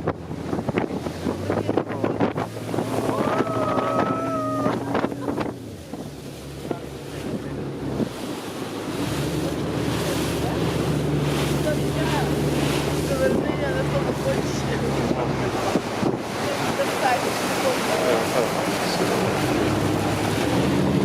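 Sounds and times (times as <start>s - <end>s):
outboard motor running: 0.0s - 21.0s
water splashing against hull: 0.0s - 21.0s
wind buffeting microphone: 0.0s - 21.0s.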